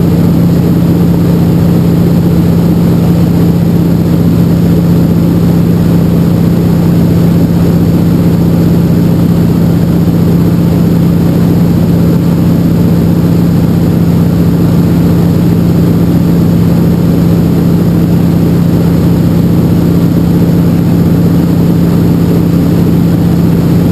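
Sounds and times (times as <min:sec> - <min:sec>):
propeller plane engine drone: 0:00.0 - 0:23.9.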